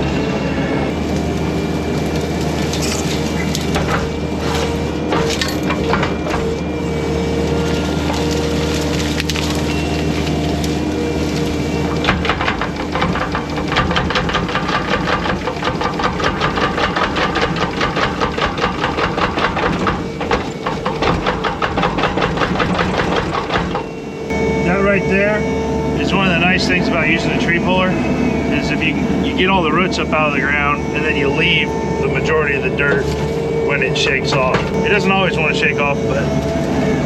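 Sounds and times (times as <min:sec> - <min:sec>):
skid steer engine running: 0:00.0 - 0:37.0
wood cracking: 0:00.9 - 0:24.0, 0:28.6 - 0:37.0.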